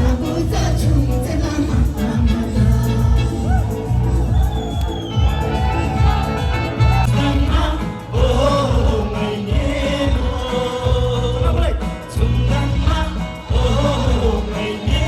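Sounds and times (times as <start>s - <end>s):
heavy pulsing bass: 0.0s - 15.0s.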